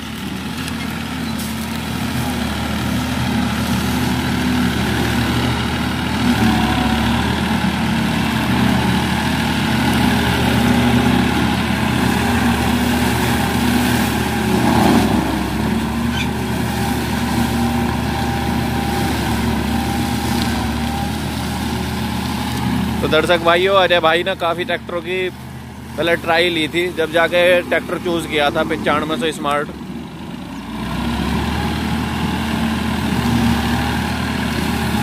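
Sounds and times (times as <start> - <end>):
mulcher shredding leaves: 0.0 - 35.0
tractor diesel engine under load: 0.0 - 35.0.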